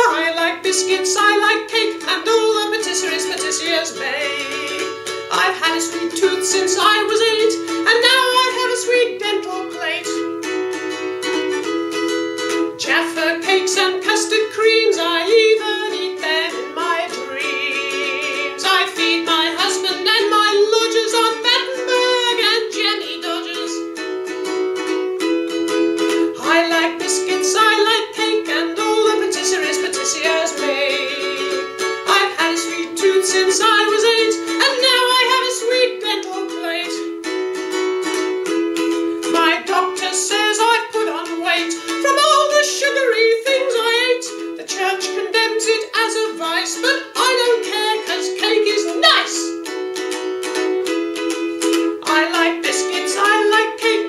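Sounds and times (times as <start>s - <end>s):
person singing: 0.0s - 11.7s, 12.7s - 24.6s, 25.8s - 37.2s, 38.1s - 49.8s, 50.4s - 54.0s
ukulele strumming: 0.0s - 54.0s.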